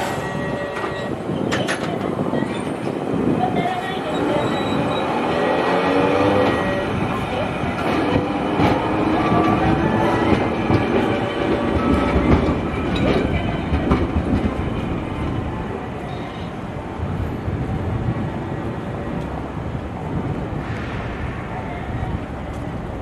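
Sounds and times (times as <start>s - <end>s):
streetcar running on rails: 0.0s - 23.0s
wind rumbling on microphone: 0.0s - 23.0s.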